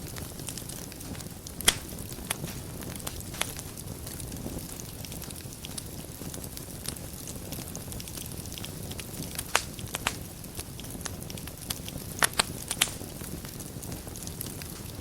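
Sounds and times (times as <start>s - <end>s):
low rumble of flames: 0.0s - 15.0s
wood fire crackles and pops: 0.0s - 15.0s.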